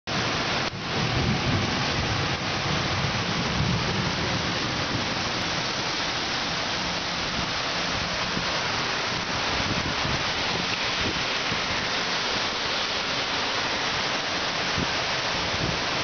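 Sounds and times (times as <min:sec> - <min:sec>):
heavy rain pouring: 0:00.1 - 0:16.0.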